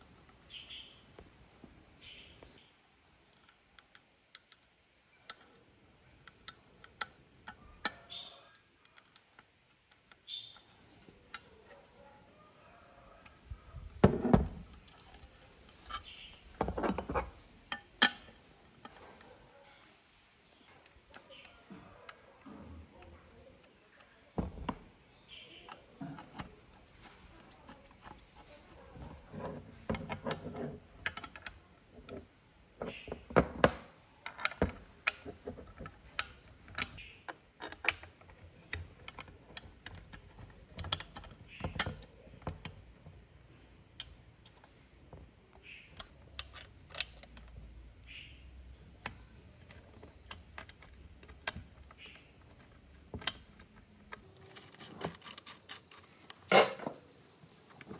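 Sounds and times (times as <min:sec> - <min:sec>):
small parts clicking and tapping: 0:00.0 - 0:12.4, 0:13.0 - 0:56.7.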